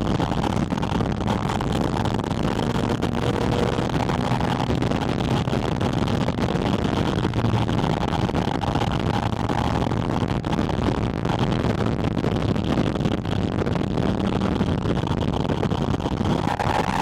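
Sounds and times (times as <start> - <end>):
car engine running: 0.0 - 17.0
road noise: 0.0 - 17.0
wind noise: 0.0 - 17.0.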